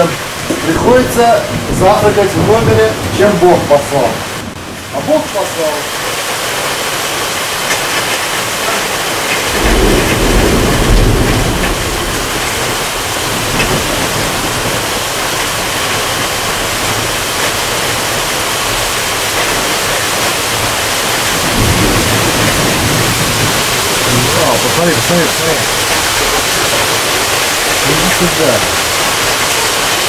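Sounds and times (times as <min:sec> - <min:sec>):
heavy rain on trees: 0:00.0 - 0:30.0
thunder rumbling: 0:00.0 - 0:30.0.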